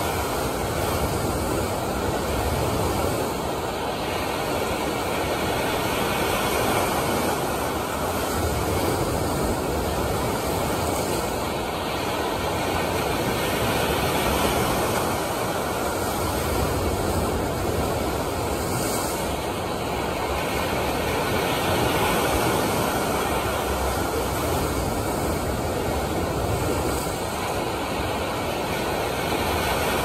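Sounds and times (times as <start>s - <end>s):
waves breaking: 0.0s - 30.0s.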